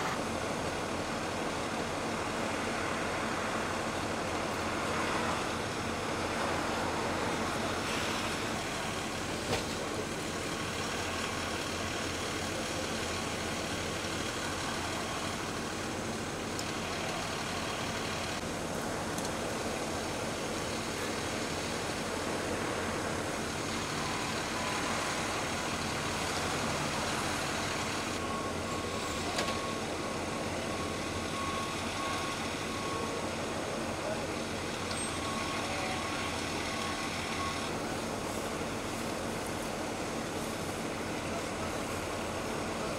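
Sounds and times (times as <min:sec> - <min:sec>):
emergency vehicle engines idling: 0:00.0 - 0:42.9
road noise: 0:00.0 - 0:42.9.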